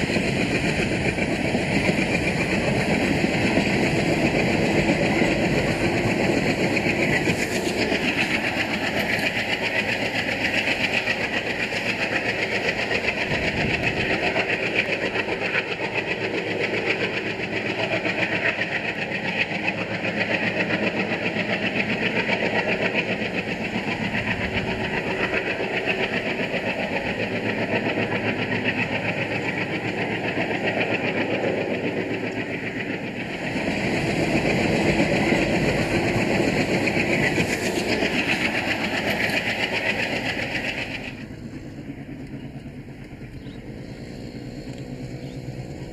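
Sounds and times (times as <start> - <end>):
diesel locomotive engine: 0.0 - 45.9
train wheels on rails: 0.0 - 45.9.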